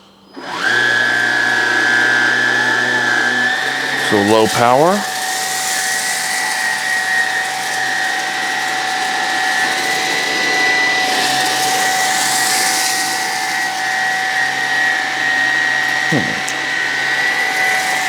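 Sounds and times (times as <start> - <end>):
stick vacuum motor whine: 0.0 - 18.0.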